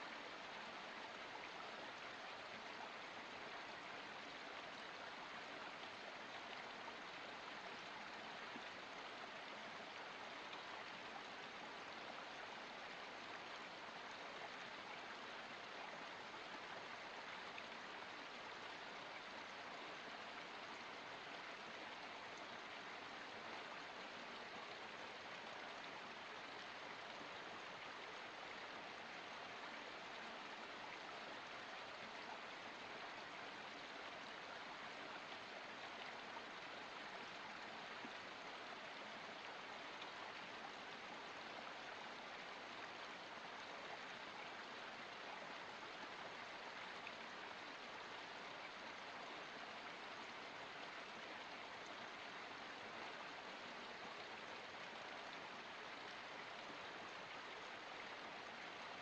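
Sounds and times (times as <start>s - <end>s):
creek running over rocks: 0.0s - 59.0s.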